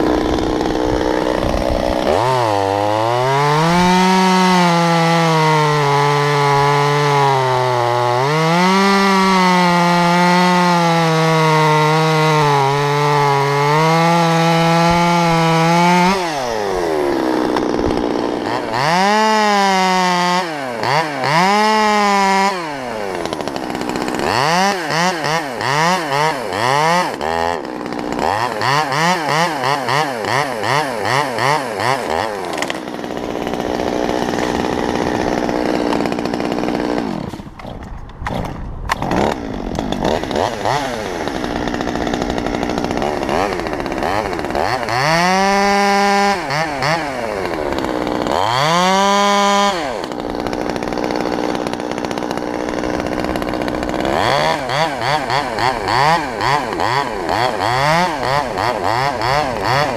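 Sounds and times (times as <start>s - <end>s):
chainsaw cutting and revving: 0.0s - 59.9s.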